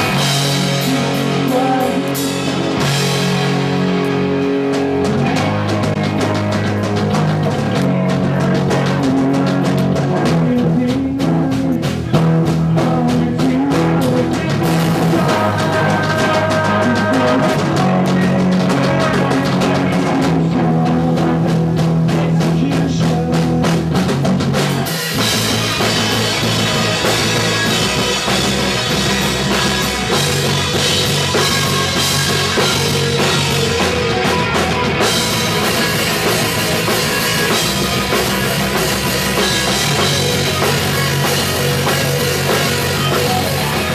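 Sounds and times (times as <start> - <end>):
punk rock band playing live: 0.0 - 43.9.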